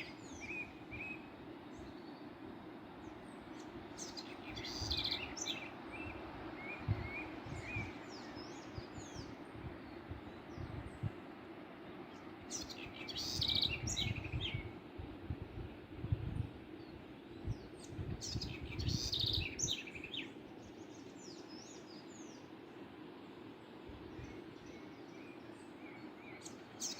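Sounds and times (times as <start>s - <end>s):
songbirds singing: 0.0s - 26.9s.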